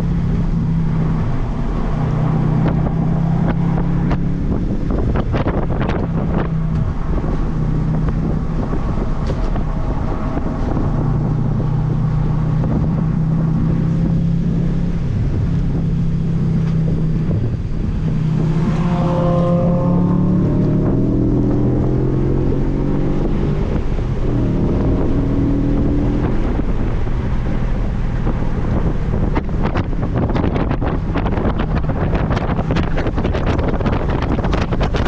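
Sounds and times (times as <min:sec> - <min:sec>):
car engine running hard: 0:00.0 - 0:35.0
rising whine: 0:00.0 - 0:35.0
wind rushing over microphone: 0:00.0 - 0:35.0.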